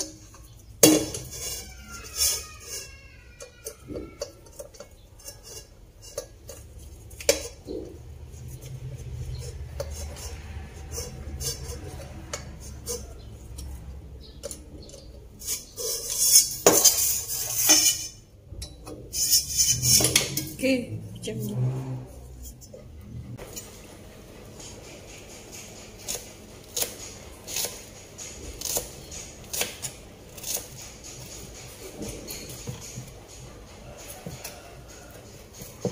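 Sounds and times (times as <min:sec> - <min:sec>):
pan scraping and rattling: 0:00.0 - 0:29.4, 0:30.0 - 0:35.9.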